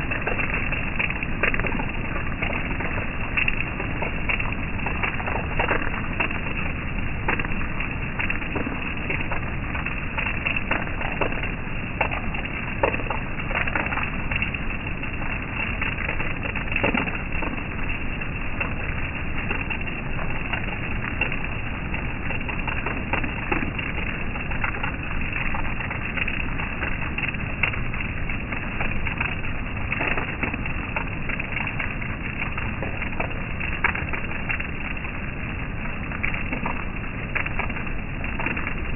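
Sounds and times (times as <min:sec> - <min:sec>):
raindrops ticking: 0:00.0 - 0:38.9
steady rain falling: 0:00.0 - 0:38.9.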